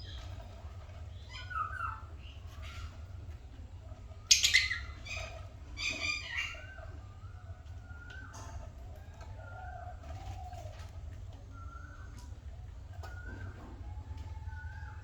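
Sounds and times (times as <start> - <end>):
lovebirds chirping and squawking: 0.0 - 15.0.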